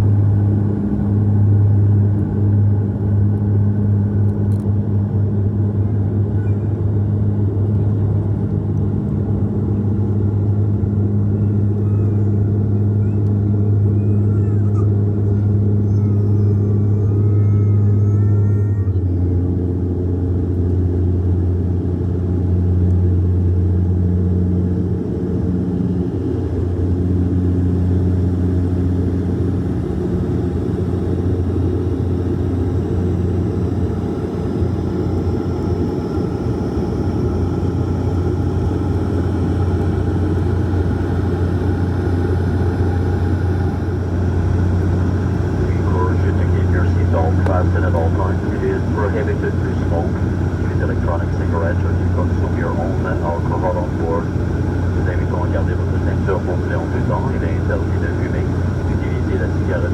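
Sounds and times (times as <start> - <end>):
deep propeller hum: 0.0 - 59.9
turboprop cabin drone: 0.0 - 59.9.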